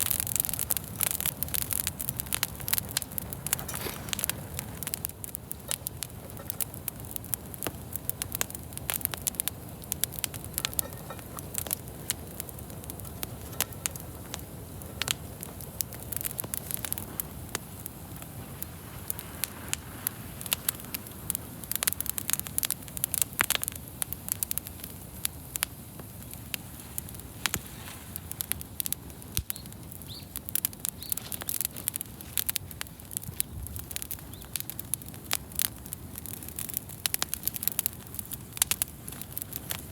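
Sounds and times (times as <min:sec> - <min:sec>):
bonfire crackling and popping: 0:00.0 - 0:39.9
low rush of burning fire: 0:00.0 - 0:39.9.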